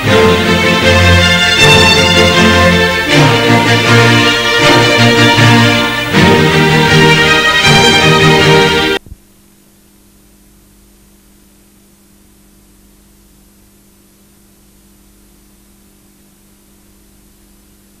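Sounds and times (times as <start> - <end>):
electrical mains hum: 0.0 - 18.0
faint tape hiss: 0.0 - 18.0.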